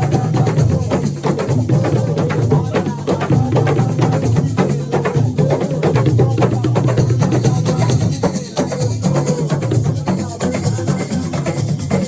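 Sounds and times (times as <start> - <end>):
fast percussion music: 0.0 - 12.0.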